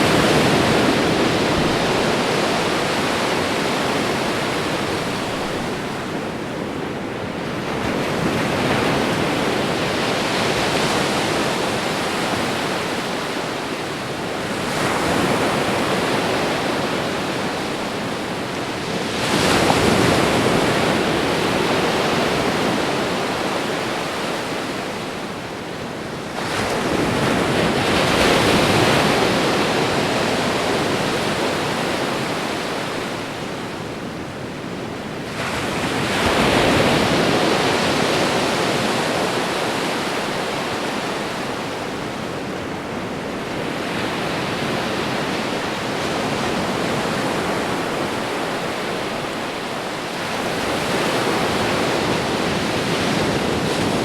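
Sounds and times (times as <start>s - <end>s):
ocean waves washing ashore: 0.0s - 54.0s.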